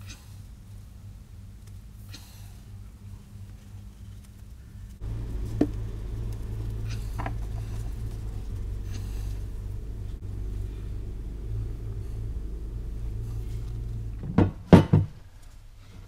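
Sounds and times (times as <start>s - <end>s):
machine rumbling with hum: 0.0s - 16.0s.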